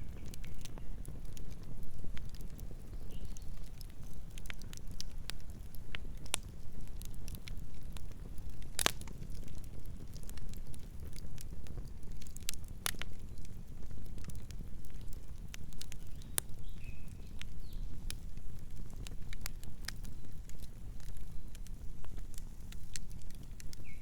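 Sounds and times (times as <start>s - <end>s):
campfire crackling and popping: 0.0s - 24.0s
low fire rumble: 0.0s - 24.0s.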